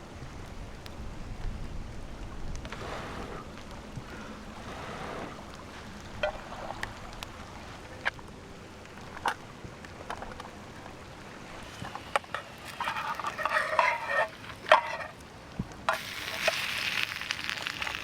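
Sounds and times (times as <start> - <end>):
water noise: 0.0 - 18.0
wind: 0.0 - 18.0.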